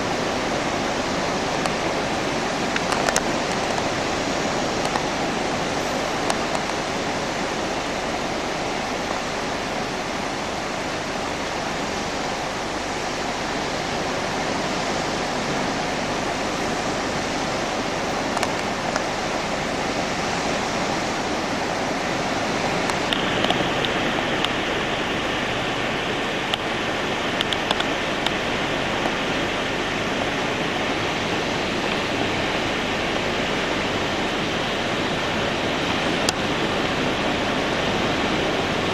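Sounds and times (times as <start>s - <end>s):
sea surf: 0.0s - 38.9s
wind on the shore: 0.0s - 38.9s.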